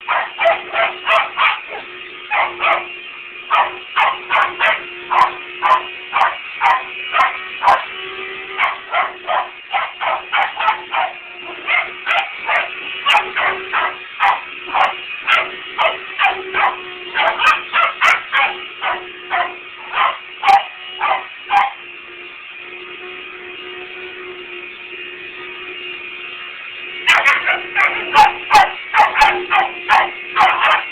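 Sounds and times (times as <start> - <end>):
dog barking frantically: 0.0 - 8.0, 8.6 - 21.8, 27.1 - 30.9
vacuum cleaner humming: 0.0 - 30.9.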